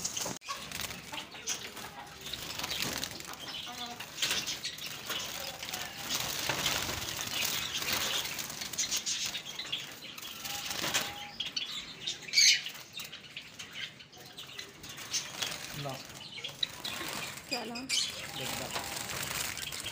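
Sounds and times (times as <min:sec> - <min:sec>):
birds flapping wings: 0:00.0 - 0:11.3, 0:14.8 - 0:19.9.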